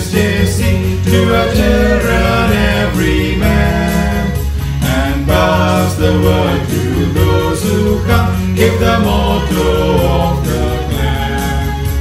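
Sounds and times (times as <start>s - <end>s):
song with instrumental backing: 0.0s - 12.0s.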